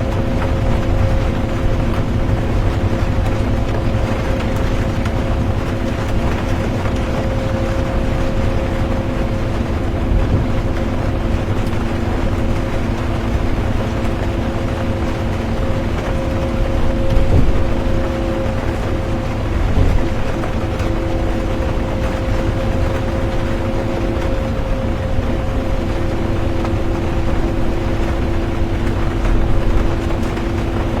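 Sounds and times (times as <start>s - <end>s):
bus engine and road rumble: 0.0s - 31.0s
drivetrain hum: 0.0s - 31.0s
rain hissing on a bus: 0.0s - 31.0s.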